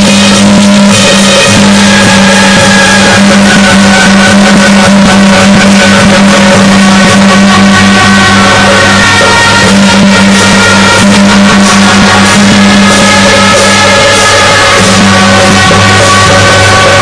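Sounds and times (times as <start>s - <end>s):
loud distorted festival music: 0.0s - 17.0s.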